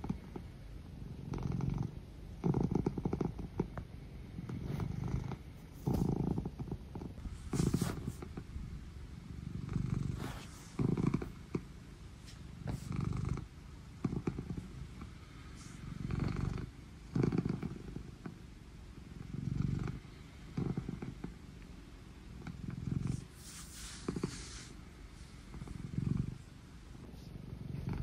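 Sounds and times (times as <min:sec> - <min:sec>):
cat purring: 0:00.0 - 0:28.0.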